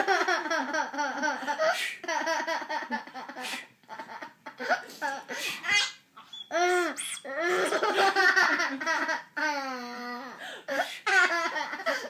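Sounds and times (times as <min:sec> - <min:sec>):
small child laughing: 0:00.0 - 0:12.0.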